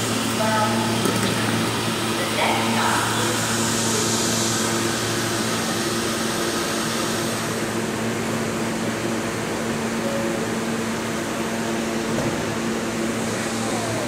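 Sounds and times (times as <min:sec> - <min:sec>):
subway train equipment humming: 0:00.0 - 0:14.0.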